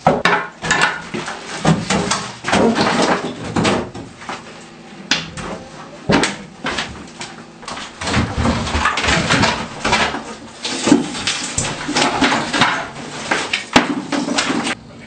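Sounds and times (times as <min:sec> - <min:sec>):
knocking banging and scraping: 0:00.0 - 0:04.6, 0:05.2 - 0:14.8.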